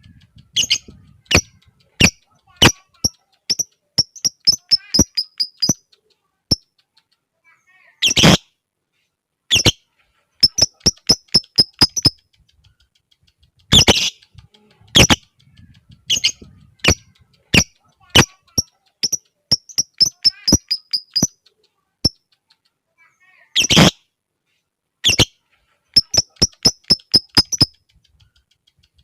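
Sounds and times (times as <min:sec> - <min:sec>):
bird ticking chirps: 0:00.0 - 0:07.3, 0:08.0 - 0:08.7, 0:09.5 - 0:22.9, 0:23.6 - 0:24.1, 0:25.0 - 0:29.0.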